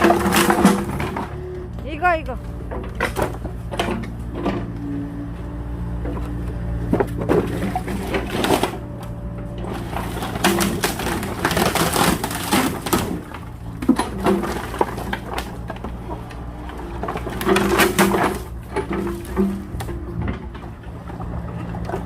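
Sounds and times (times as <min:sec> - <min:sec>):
excavator engine running: 0:00.0 - 0:22.0
wooden pallets cracking and scraping: 0:00.0 - 0:22.0.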